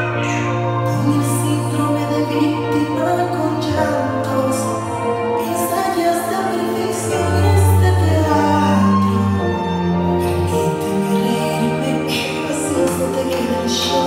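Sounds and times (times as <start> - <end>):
latin pop song with singing: 0.0 - 14.0.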